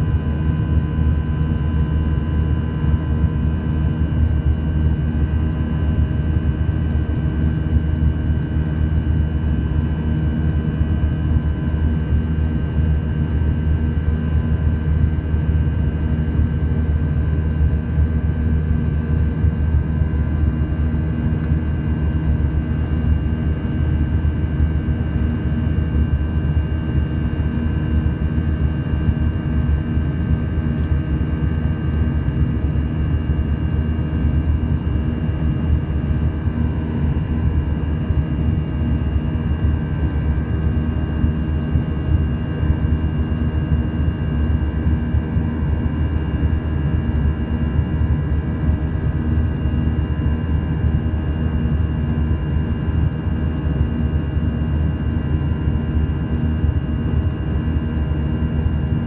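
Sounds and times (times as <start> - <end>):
jet engine low rumble: 0.0 - 59.0.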